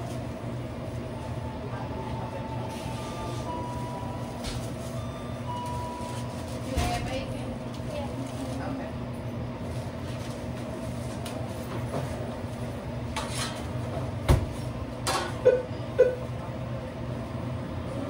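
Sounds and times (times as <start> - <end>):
kitchen equipment humming: 0.0 - 18.0.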